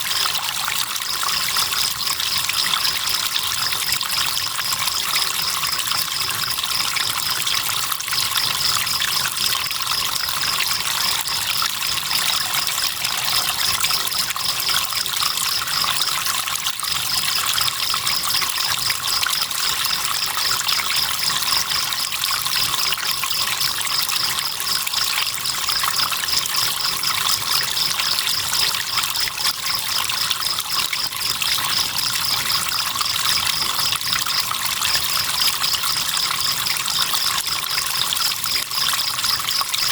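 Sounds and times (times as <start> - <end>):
cricket chirping: 0.0 - 39.9
river water trickling: 0.0 - 39.9.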